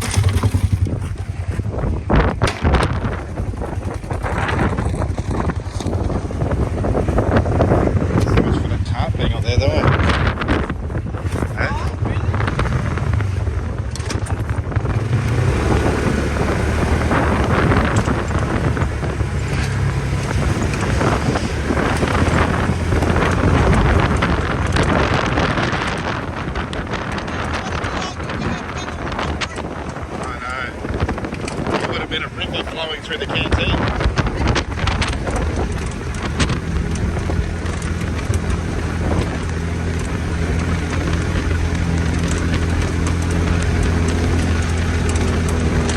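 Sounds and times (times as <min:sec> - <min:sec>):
engine humming: 0:00.0 - 0:45.9
motor vehicle running: 0:00.0 - 0:45.9
wind buffeting microphone: 0:00.0 - 0:45.9.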